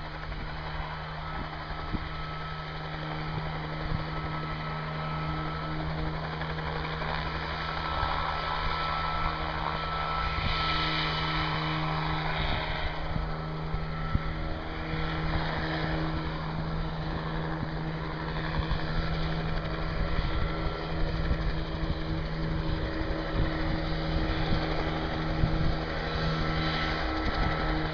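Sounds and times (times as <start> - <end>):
helicopter engine and rotor: 0.0 - 27.9.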